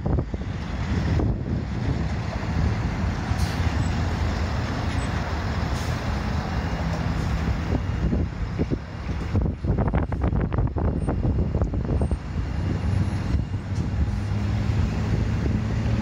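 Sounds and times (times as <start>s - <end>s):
road traffic rumble: 0.0s - 16.0s
wind buffeting microphone: 0.0s - 16.0s.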